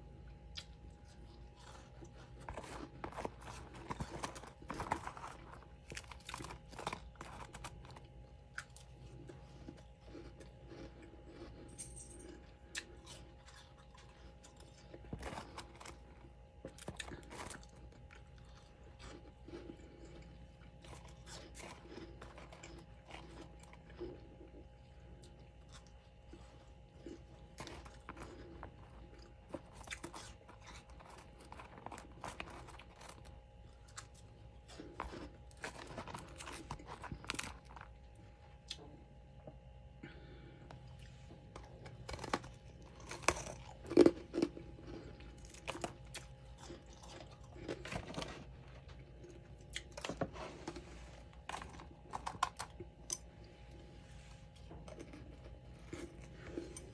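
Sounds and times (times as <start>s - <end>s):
faint steady hum: 0.0s - 56.9s
frost crunching: 0.5s - 38.8s, 40.1s - 56.9s.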